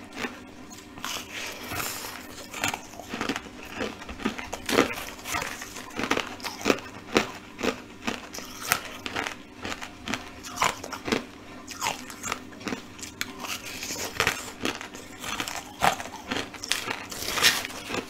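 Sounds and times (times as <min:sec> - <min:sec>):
person chewing crunchy pieces: 0:00.0 - 0:18.0.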